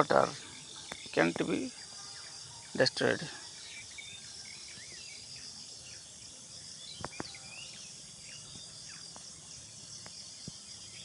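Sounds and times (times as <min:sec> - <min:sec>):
bird chirps: 0:00.0 - 0:11.0
crickets droning: 0:00.0 - 0:11.0.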